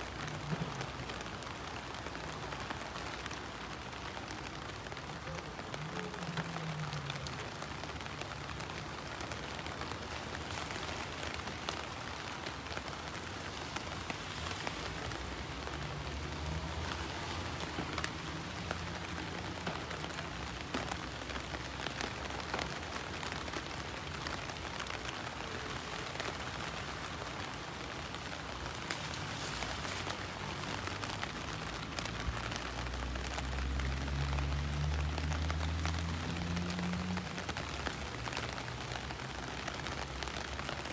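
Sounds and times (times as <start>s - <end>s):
rain falling on pavement: 0.0s - 40.9s.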